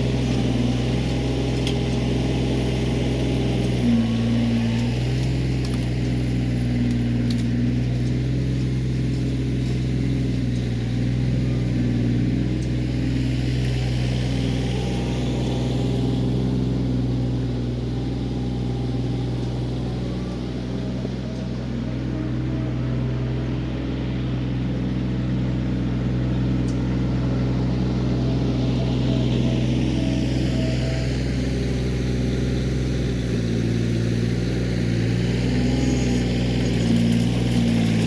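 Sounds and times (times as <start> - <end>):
hydraulics hum: 0.0 - 38.0
tractor diesel engine running: 0.0 - 38.0.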